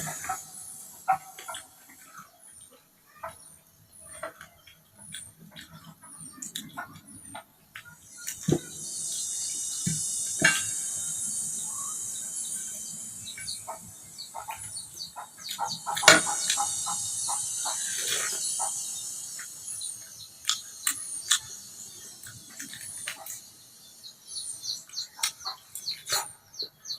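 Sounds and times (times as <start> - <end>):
high-pitched chirping: 5.1 - 26.9.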